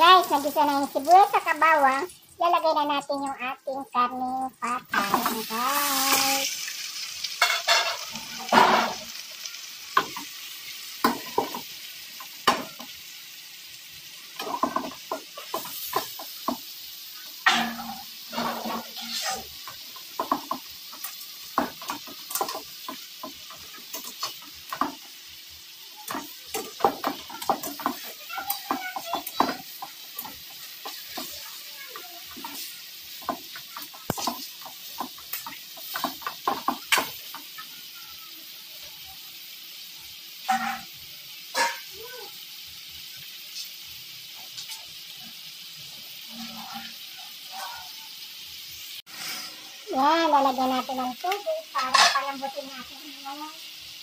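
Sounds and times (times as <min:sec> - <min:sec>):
meat sizzling in a wok: 0:00.0 - 0:54.0.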